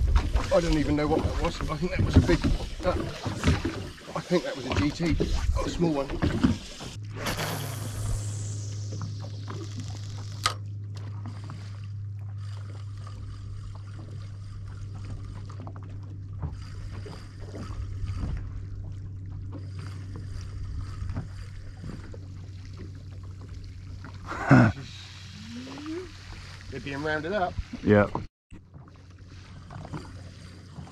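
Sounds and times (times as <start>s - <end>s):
boat engine humming: 0.0s - 30.9s
water against hull: 0.0s - 30.9s.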